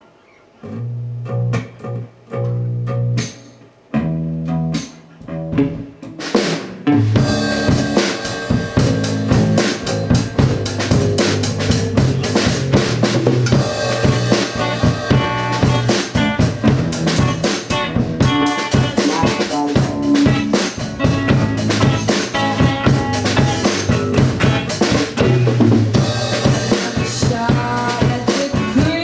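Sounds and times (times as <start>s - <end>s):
guitar and bass chords: 0.6s - 29.0s
rock band playing: 2.4s - 29.0s.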